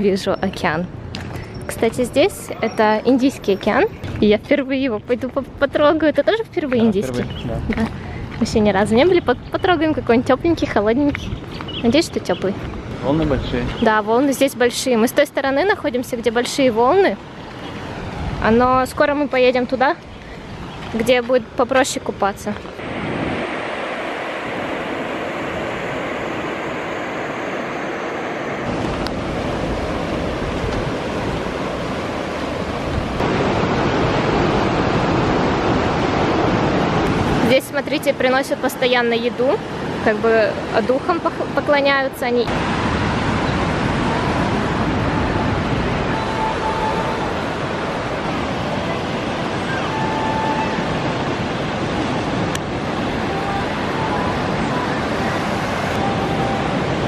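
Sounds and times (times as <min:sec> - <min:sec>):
wind on microphone: 0:00.0 - 0:14.2, 0:16.1 - 0:57.0
ocean waves breaking: 0:00.0 - 0:57.0.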